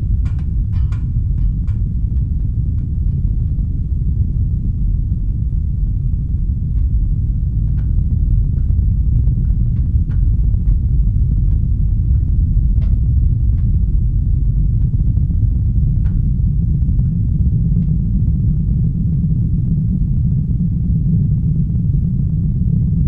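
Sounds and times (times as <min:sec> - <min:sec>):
low industrial rumble: 0:00.0 - 0:23.0.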